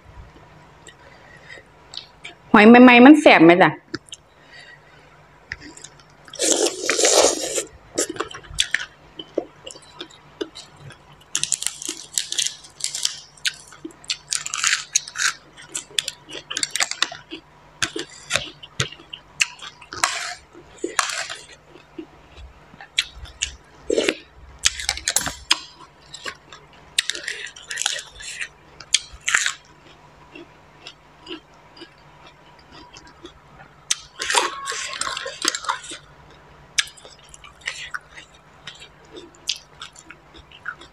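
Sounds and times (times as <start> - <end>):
wet chewing and smacking: 5.5 - 40.9.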